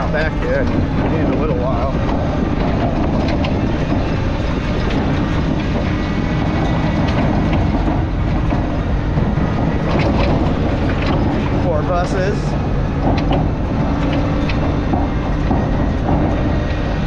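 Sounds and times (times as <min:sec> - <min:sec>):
light rattles and clicks: 0:00.0 - 0:17.0
vehicle rumble: 0:00.0 - 0:17.0.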